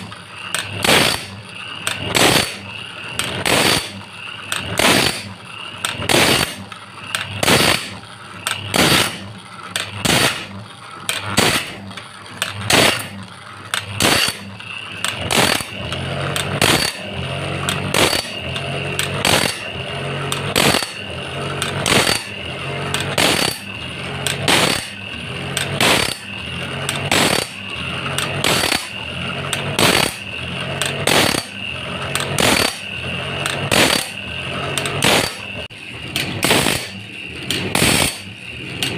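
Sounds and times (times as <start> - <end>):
feed arm clicking: 0.0 - 38.9
grinding wheel whining: 0.0 - 38.9.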